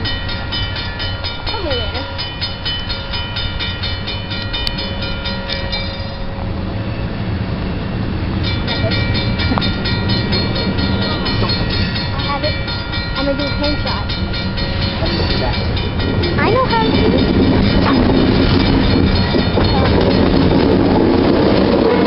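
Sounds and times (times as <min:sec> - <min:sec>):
bell ringing rapidly: 0:00.0 - 0:06.4, 0:08.4 - 0:20.9
diesel locomotive rumbling: 0:00.0 - 0:22.0.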